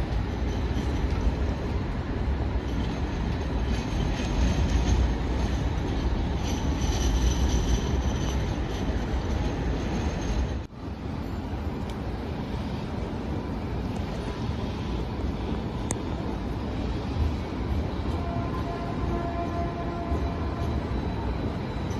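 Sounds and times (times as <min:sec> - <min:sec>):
tram wheels squealing: 0:00.0 - 0:21.9.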